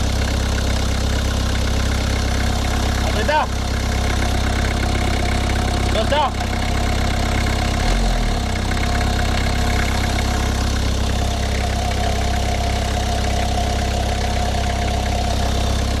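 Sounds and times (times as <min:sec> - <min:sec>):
diesel engine idling: 0:00.0 - 0:16.0
steady engine tone: 0:00.0 - 0:16.0.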